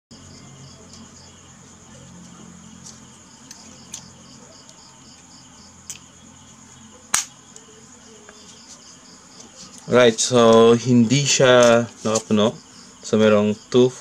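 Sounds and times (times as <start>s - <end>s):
crickets chirping: 0.1s - 14.0s.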